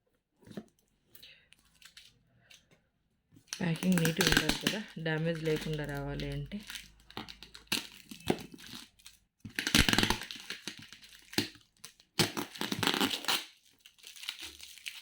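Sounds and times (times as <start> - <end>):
packaging crumpled and torn: 1.6 - 2.2, 3.5 - 15.0.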